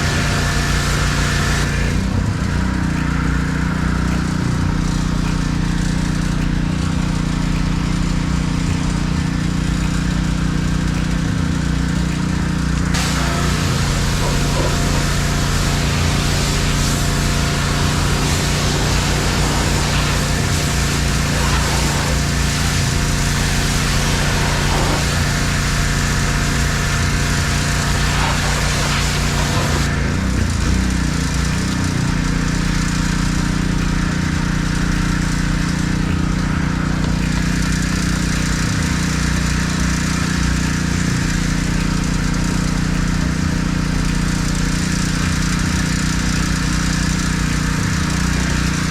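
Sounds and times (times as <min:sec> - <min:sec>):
pressure washer engine running: 0:00.0 - 0:48.9
water spray hissing: 0:00.0 - 0:48.9.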